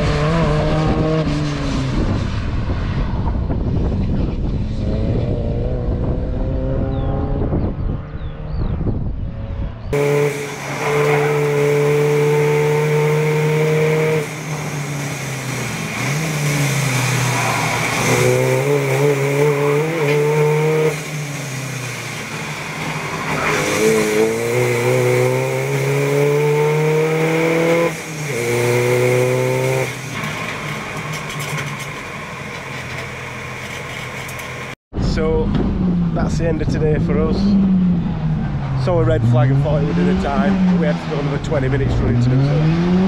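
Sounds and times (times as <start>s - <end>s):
diesel car engine accelerating: 0.0s - 43.0s.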